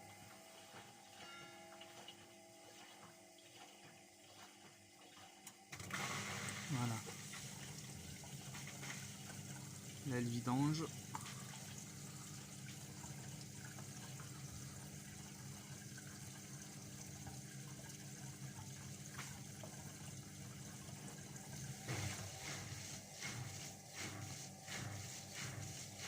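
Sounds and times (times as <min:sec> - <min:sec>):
washing machine drain pump humming: 0:00.0 - 0:26.0
water trickling: 0:00.0 - 0:26.0.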